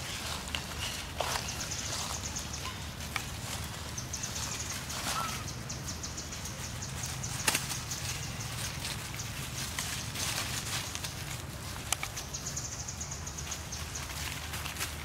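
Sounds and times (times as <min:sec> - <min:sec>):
footsteps on dry leaves: 0:00.0 - 0:15.0
sharp leaf crackles: 0:00.0 - 0:15.0.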